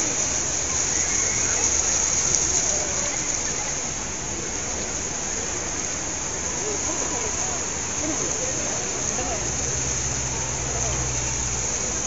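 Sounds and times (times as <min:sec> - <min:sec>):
faint voices: 0:00.0 - 0:12.0
fountain water splashing: 0:00.0 - 0:12.0.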